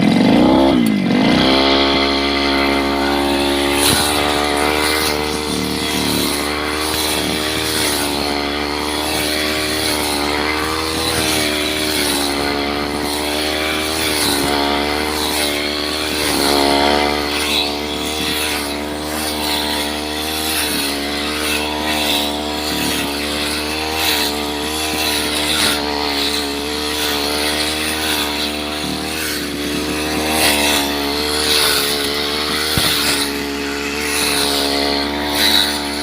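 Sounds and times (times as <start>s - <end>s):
brush cutter engine revving: 0.0s - 36.0s.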